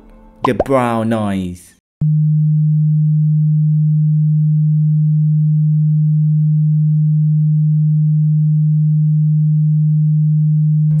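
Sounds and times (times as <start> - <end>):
low sine wave tone: 2.0 - 11.0.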